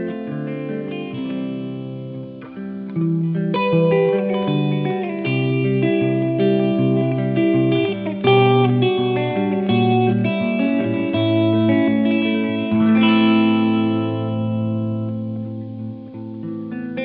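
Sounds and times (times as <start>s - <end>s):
guitar music with effects: 0.0s - 17.0s.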